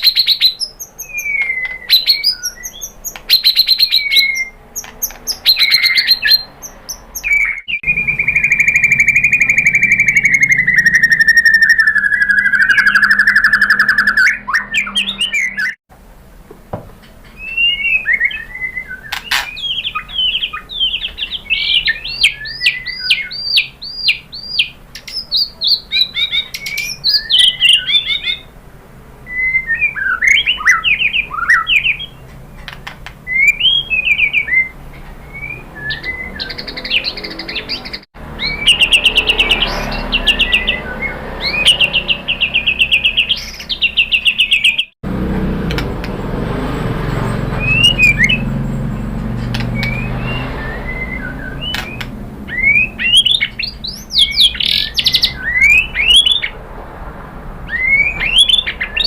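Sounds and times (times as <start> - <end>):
bird singing whistled phrases: 0.0 - 15.8, 17.4 - 28.5, 29.3 - 32.2, 33.3 - 44.9, 47.6 - 48.5, 49.6 - 56.5, 57.7 - 59.0.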